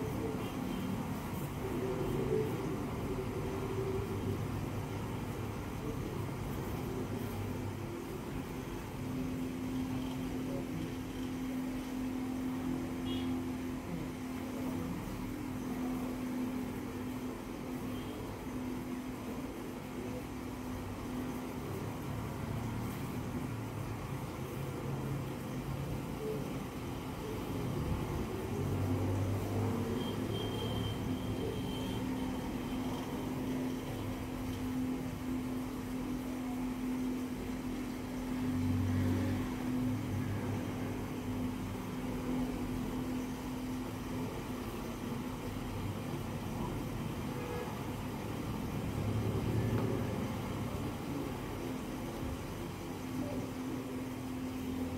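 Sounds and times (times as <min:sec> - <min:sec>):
mechanical hum: 0:00.0 - 0:54.9.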